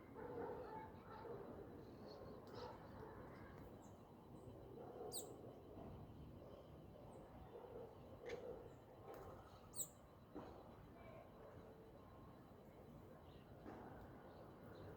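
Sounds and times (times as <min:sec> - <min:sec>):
faint outdoor ambience: 0:00.0 - 0:14.9.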